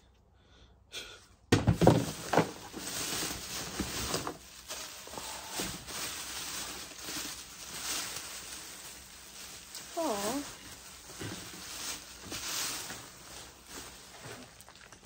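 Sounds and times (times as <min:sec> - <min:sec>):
items rustling in a box: 0:01.6 - 0:15.0.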